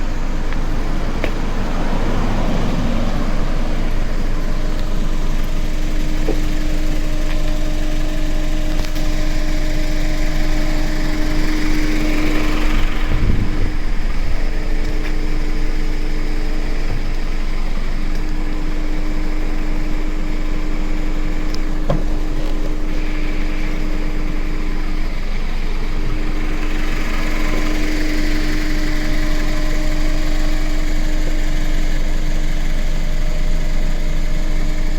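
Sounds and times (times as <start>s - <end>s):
scooter engine with abnormal noise: 0.0s - 34.9s.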